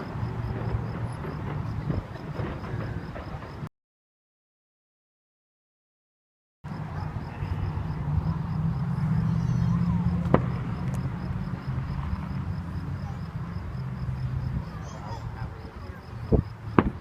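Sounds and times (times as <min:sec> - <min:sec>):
firework crack: 0:00.0 - 0:03.7, 0:06.7 - 0:17.0.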